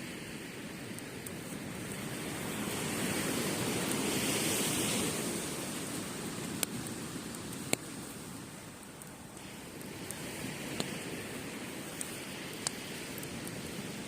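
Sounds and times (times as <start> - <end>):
campfire popping: 0.0 - 14.0
waves washing on beach: 0.0 - 14.0.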